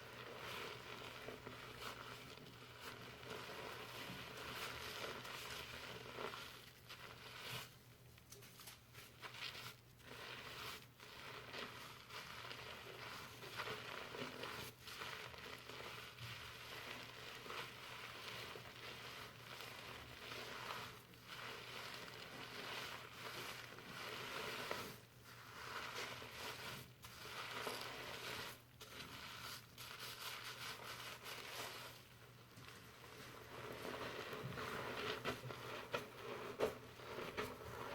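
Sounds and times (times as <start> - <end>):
fingers scrubbing shampoo lather: 0.1 - 7.8, 9.0 - 32.1, 33.0 - 37.9.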